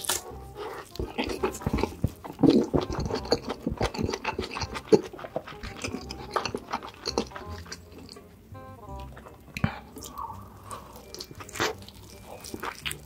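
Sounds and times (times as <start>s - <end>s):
wet chewing and mouth smacking: 0.0s - 8.3s, 8.9s - 13.0s.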